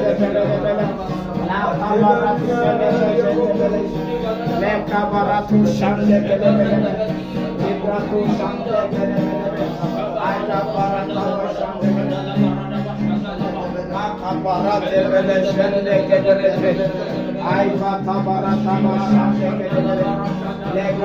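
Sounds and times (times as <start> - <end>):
gospel worship music: 0.0 - 21.0.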